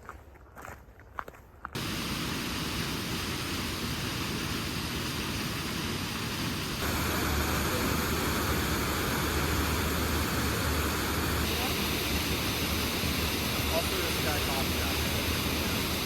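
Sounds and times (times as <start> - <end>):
loud rushing noise outdoors: 1.8 - 16.0.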